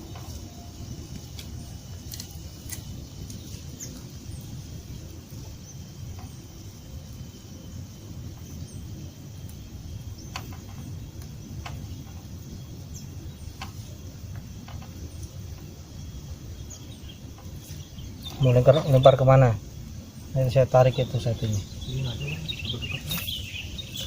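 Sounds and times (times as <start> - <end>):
faint insect drone: 0.0 - 24.0
steady low rumble: 0.0 - 24.0.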